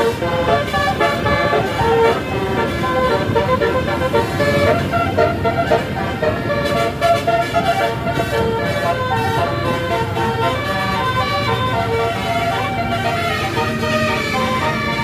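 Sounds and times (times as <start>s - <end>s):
bus engine running: 0.0s - 15.0s
musical bus horn tune: 0.0s - 15.0s.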